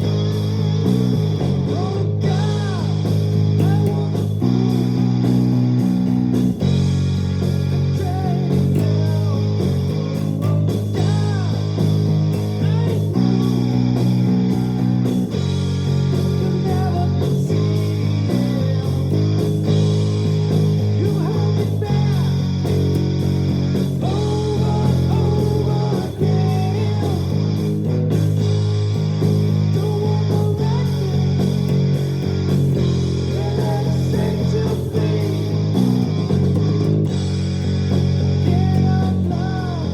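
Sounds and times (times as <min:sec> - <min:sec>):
electric bass playing: 0:00.0 - 0:39.9
steady drum beat: 0:00.0 - 0:39.9.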